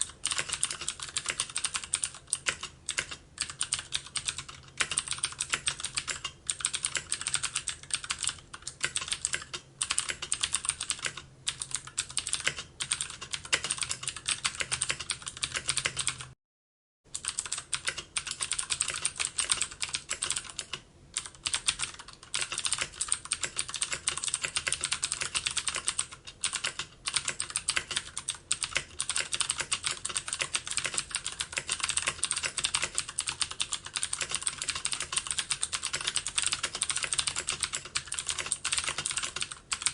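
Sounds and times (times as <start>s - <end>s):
fast typing on keyboard: 0.0s - 16.4s, 17.1s - 39.9s.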